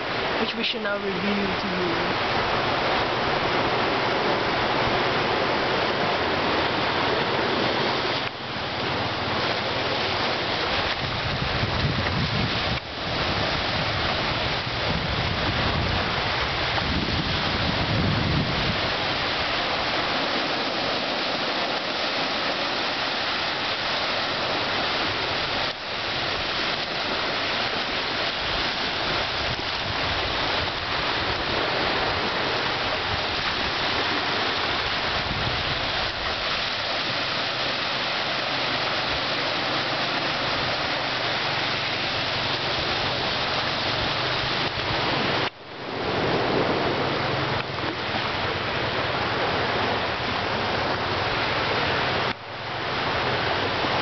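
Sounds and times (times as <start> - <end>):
waves washing onto sand: 0.0 - 54.0
wind: 0.0 - 54.0.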